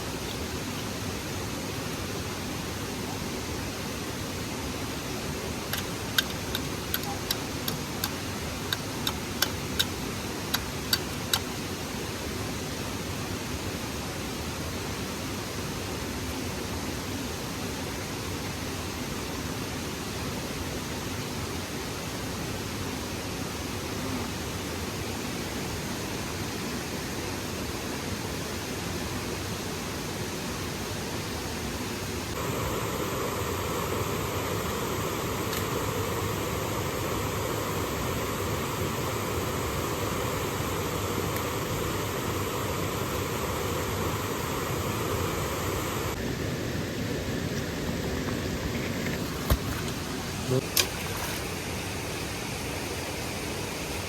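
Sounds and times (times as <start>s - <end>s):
stream and waterfall rushing: 0.0s - 54.0s.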